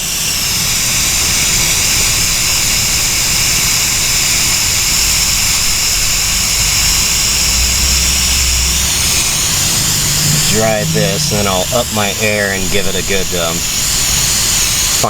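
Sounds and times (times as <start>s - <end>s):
air tool blowing air: 0.0s - 15.0s
low hum: 0.0s - 15.0s.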